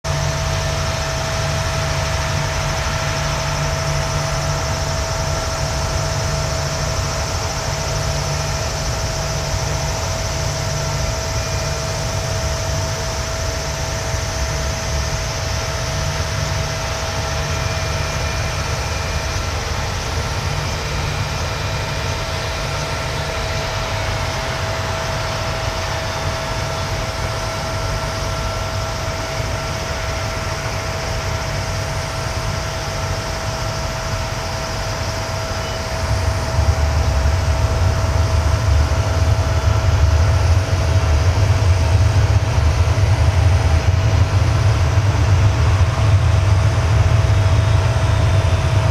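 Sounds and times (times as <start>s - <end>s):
jet engines droning at low power: 0.0s - 48.9s.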